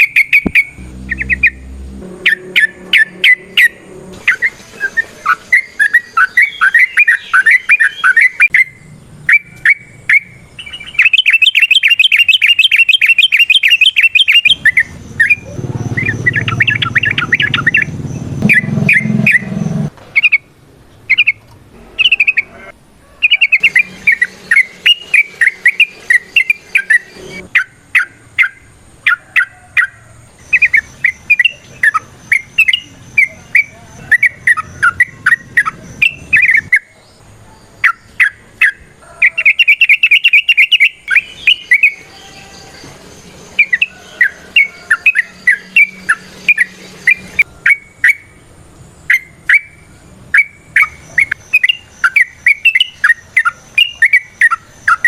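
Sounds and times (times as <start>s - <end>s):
rapid rattling bird trill: 0.0s - 1.6s, 2.2s - 19.6s, 20.2s - 20.5s, 21.1s - 55.0s
bulbul singing chattering song: 0.0s - 55.0s.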